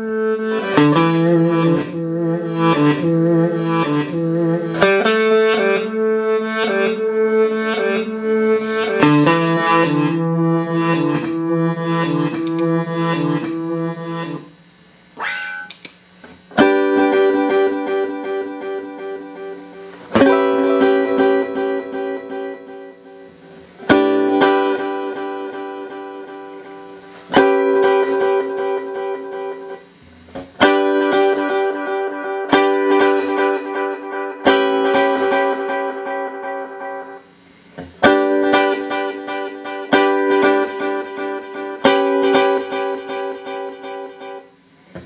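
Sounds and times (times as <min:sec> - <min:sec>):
strummed guitar chords ringing: 0:00.0 - 0:15.9, 0:16.5 - 0:45.0.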